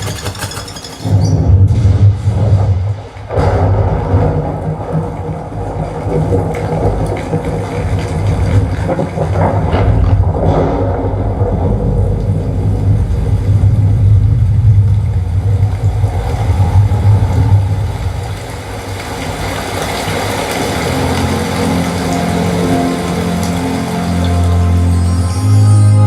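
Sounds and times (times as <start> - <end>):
deep vehicle-like rumble: 1.2 - 26.0.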